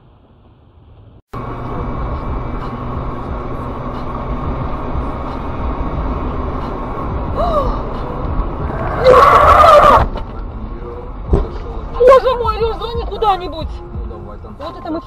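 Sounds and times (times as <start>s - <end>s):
tyre and engine noise: 0.0s - 15.0s.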